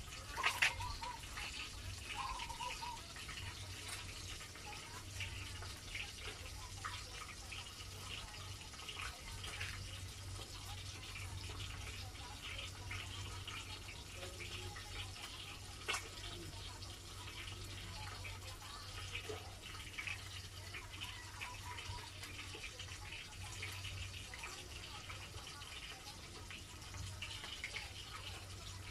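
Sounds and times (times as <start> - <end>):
fish sizzling in hot oil: 0.0 - 28.9.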